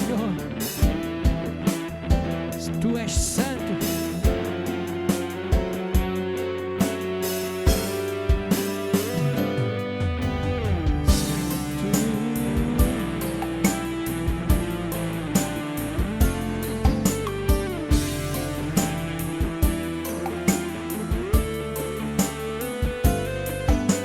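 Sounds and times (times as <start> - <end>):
bass guitar: 0.0 - 24.0
drums keeping a steady beat: 0.0 - 24.0
guitar melody with sliding notes: 0.0 - 24.0.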